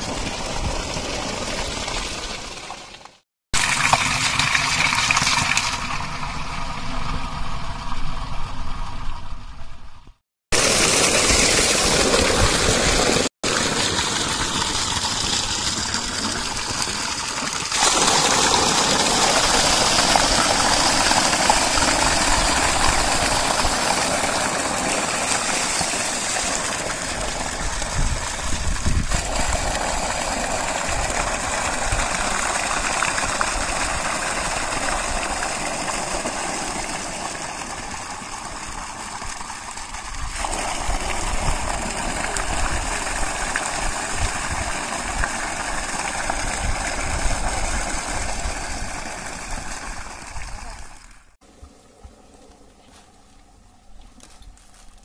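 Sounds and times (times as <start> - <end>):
water splashing into tank: 0.0 - 6.8, 10.5 - 51.4
water gushing from pipe: 0.0 - 8.2, 10.5 - 51.4.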